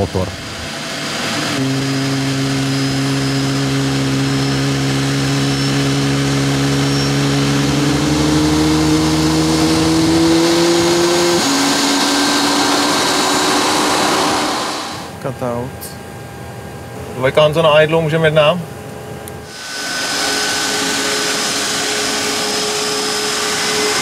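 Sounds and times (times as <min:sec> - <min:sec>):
jet engine starting whine: 0:00.0 - 0:17.8, 0:19.3 - 0:24.0.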